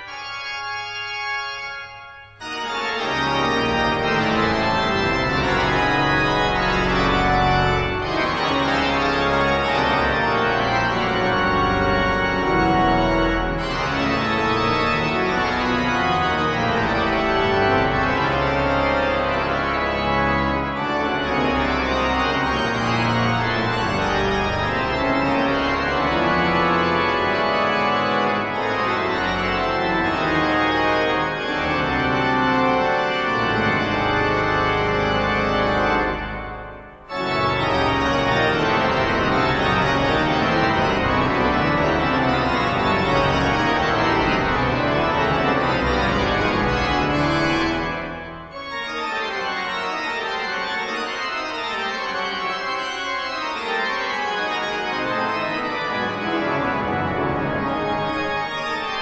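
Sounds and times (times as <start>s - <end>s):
pipe organ chords: 0.0s - 59.0s.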